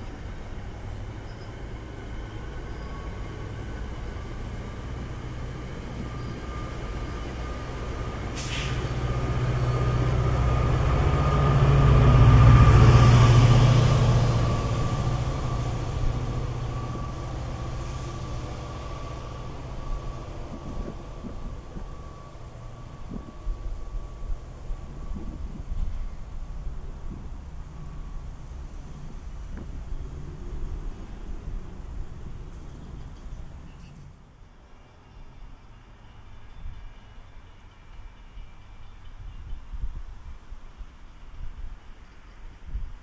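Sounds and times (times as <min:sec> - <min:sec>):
train passing: 0:00.0 - 0:42.9.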